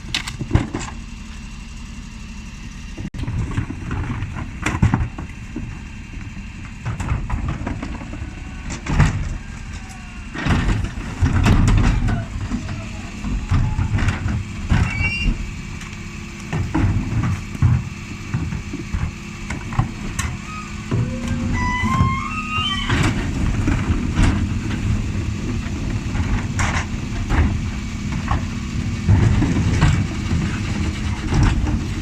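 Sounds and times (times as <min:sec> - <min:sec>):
wheelie bins clattering and banging: 0:00.0 - 0:01.5, 0:03.1 - 0:32.0
bin lifters rumbling: 0:00.0 - 0:32.0
bin lorry engine running: 0:00.0 - 0:32.0.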